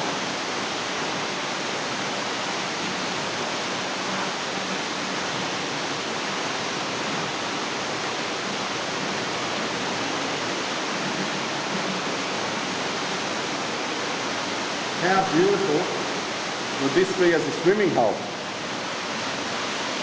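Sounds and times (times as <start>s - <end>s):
waterfall pouring into pool: 0.0s - 20.0s.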